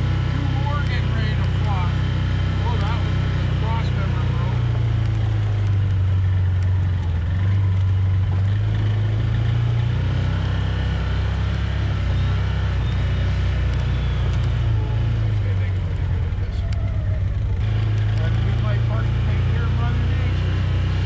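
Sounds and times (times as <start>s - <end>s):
utility vehicle engine droning: 0.0s - 21.0s.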